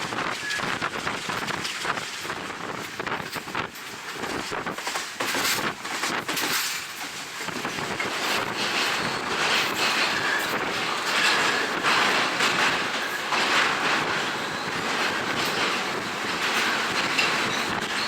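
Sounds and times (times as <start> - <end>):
train wheels clattering over rails: 0.0 - 18.0
wind rushing onto microphone: 0.0 - 18.0.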